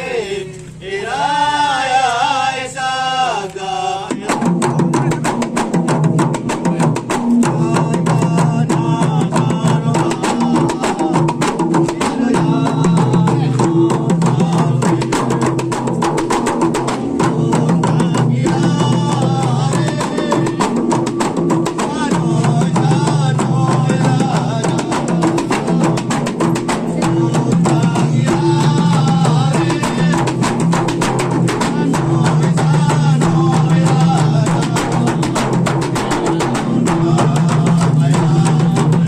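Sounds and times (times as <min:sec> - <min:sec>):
man chanting: 0:00.0 - 0:05.7, 0:06.3 - 0:39.0
frame drums beating fast: 0:04.1 - 0:39.0.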